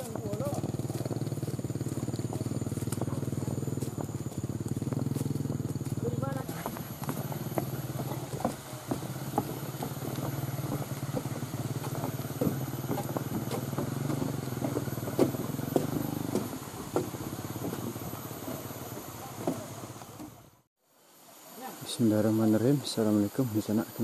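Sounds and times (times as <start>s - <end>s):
footsteps on wooden planks: 0.0s - 20.4s
small motorcycle engine running: 0.0s - 20.7s.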